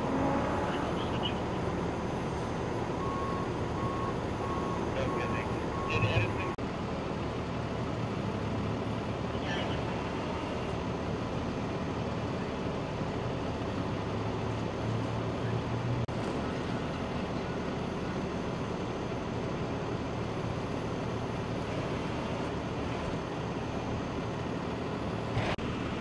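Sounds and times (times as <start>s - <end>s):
street noise: 0.0s - 26.0s
vehicle engines idling: 0.0s - 26.0s.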